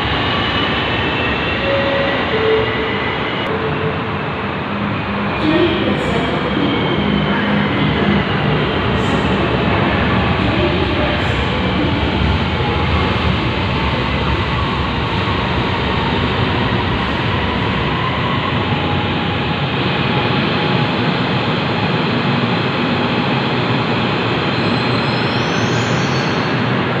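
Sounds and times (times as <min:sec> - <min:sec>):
train pulling into platform: 0:00.0 - 0:27.0.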